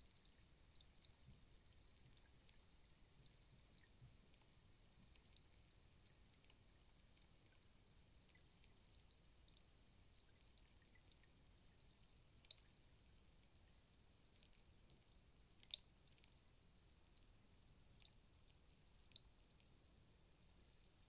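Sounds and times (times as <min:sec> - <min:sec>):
rainstick hissing and ticking: 0:00.0 - 0:21.0.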